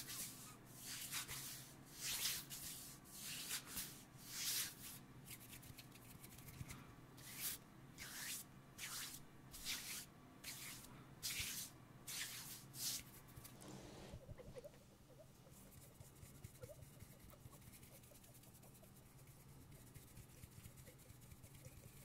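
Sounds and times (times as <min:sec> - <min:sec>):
hands rubbing together: 0:00.0 - 0:14.2, 0:15.4 - 0:22.0.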